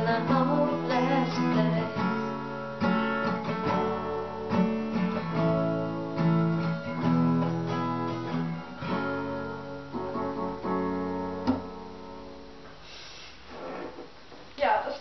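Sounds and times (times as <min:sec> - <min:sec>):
acoustic guitar strumming chords: 0:00.0 - 0:12.8.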